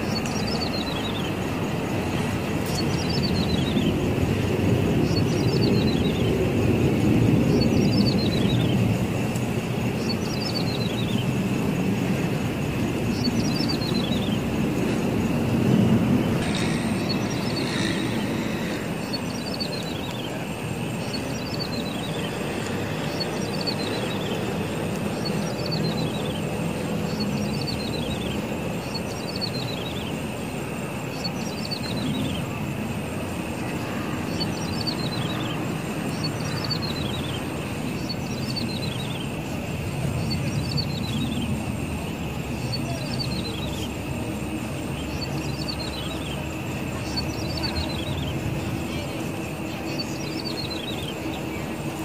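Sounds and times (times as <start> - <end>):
steady low rush: 0.0 - 52.0.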